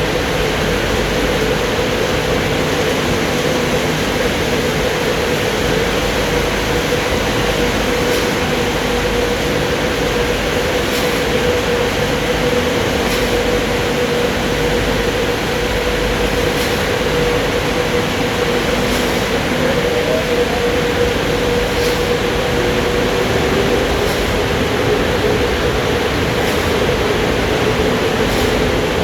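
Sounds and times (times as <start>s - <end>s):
car wash machine running: 0.0s - 29.0s.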